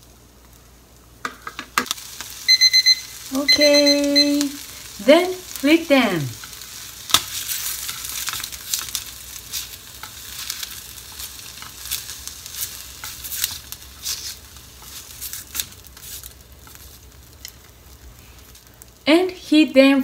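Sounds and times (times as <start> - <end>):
fish sizzling in a frying pan: 1.8 - 19.6.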